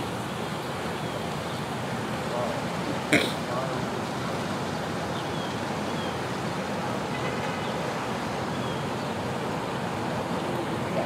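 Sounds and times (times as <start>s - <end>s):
steady rushing wash: 0.0s - 11.0s.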